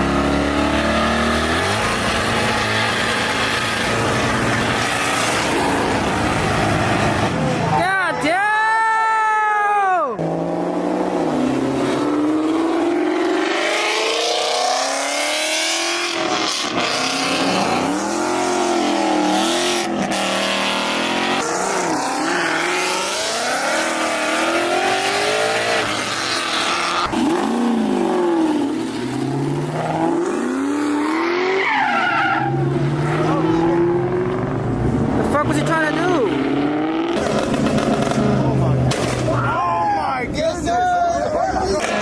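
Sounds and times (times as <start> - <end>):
car engine revving: 0.0 - 7.9, 10.2 - 39.4.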